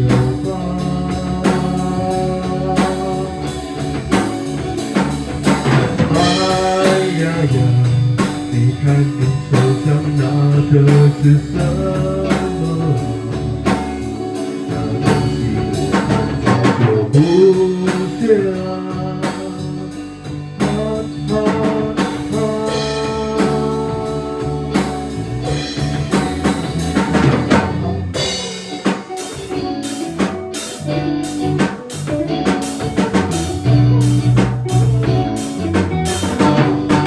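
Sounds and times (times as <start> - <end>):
drum kit beat: 0.0 - 37.0
rock guitar lines: 0.0 - 37.0.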